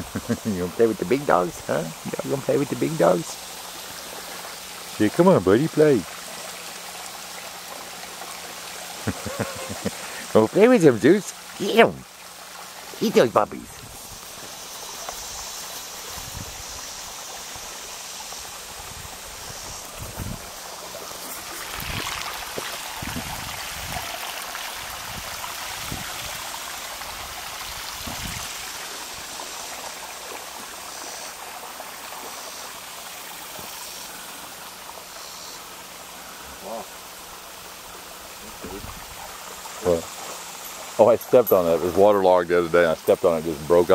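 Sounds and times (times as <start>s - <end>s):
water splashing over waterfall: 0.0s - 43.9s.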